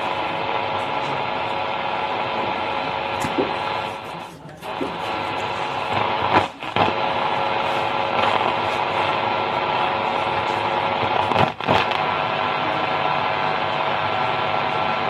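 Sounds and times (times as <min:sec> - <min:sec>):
hissy crackly speaker output: 0:00.0 - 0:15.0.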